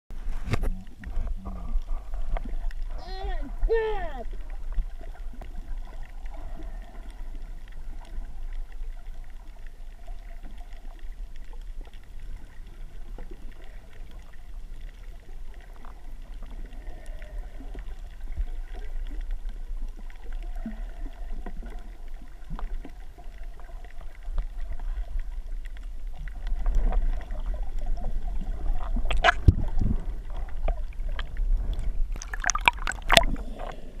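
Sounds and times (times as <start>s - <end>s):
underwater rumble of moving water: 0.1s - 34.0s
water splashes: 0.1s - 34.0s
faint gurgles: 0.2s - 34.0s.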